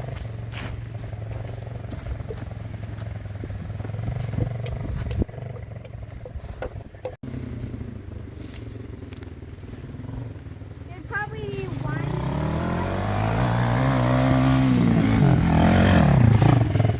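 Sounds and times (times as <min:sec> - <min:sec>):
small engine idling: 0:00.0 - 0:16.9.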